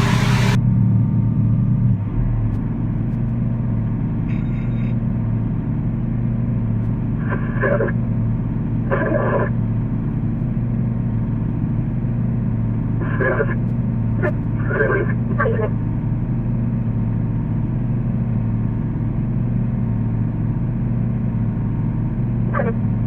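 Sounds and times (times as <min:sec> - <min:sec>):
road noise: 0:00.0 - 0:23.0
vehicle engine drone inside cab: 0:00.0 - 0:23.0.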